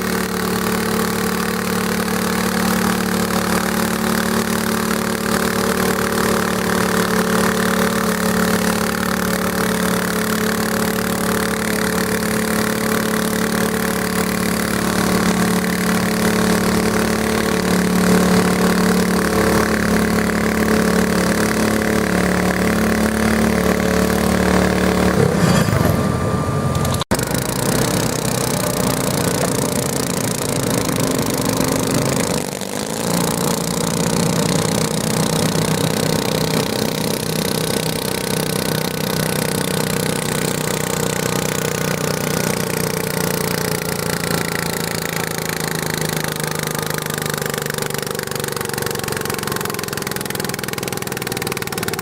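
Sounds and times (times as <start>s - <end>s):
garden tractor engine revving: 0.0s - 52.0s.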